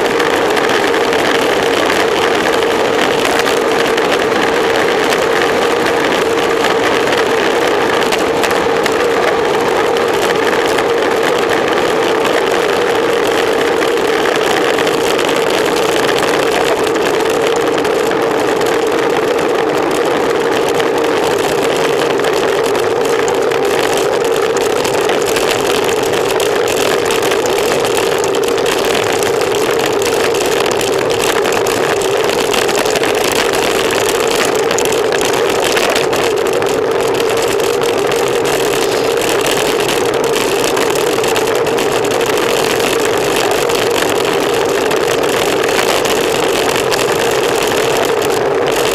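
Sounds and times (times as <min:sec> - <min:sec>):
bicycle tyre road noise: 0:00.0 - 0:48.9
wind noise: 0:00.0 - 0:48.9.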